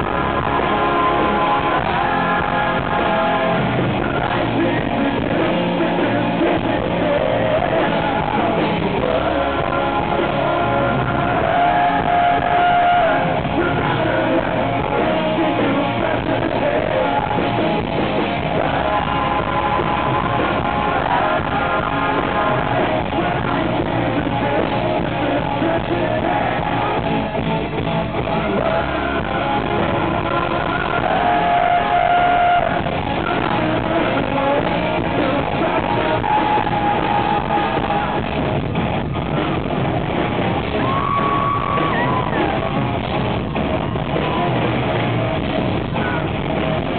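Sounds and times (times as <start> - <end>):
live rock band playing: 0.0 - 46.9
man singing lead vocals: 0.0 - 46.9.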